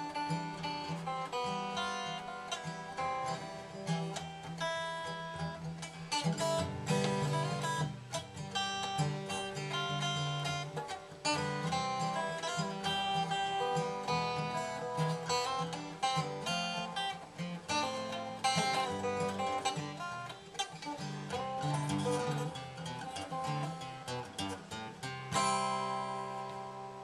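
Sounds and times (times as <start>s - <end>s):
acoustic guitar fingerstyle: 0.0s - 27.0s.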